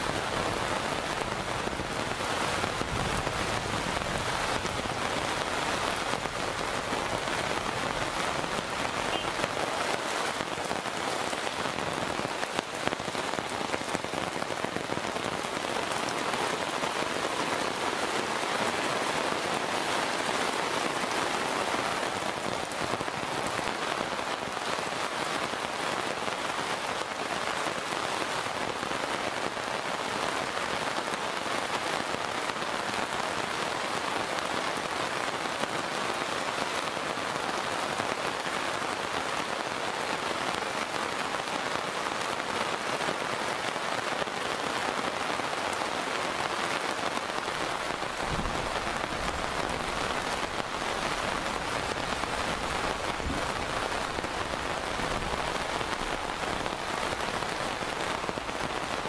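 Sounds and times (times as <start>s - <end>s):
heavy rain on a wet road: 0.0s - 59.0s.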